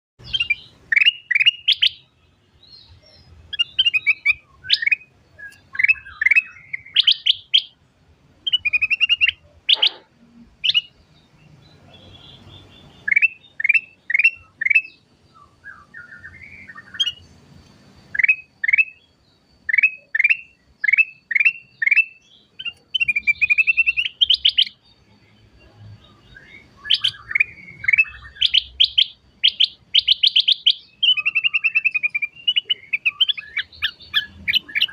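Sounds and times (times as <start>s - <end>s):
bird singing whistled notes: 0.2s - 7.8s, 8.4s - 34.9s.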